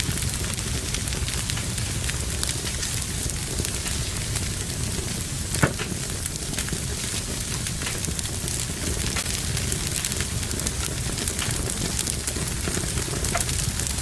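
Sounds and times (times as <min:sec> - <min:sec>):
fire crackling in a fireplace: 0:00.0 - 0:14.0
loud pop from fire: 0:00.0 - 0:14.0.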